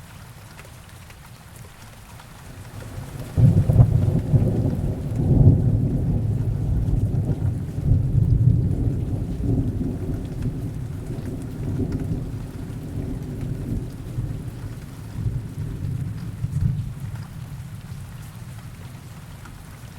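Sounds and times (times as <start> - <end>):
heavy rain: 0.0 - 19.9
low rolling thunder: 2.6 - 18.9.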